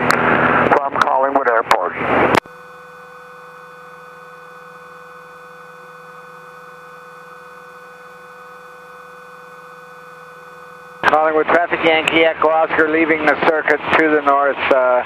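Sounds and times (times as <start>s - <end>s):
intercom hum with whine tones: 0.0s - 15.0s.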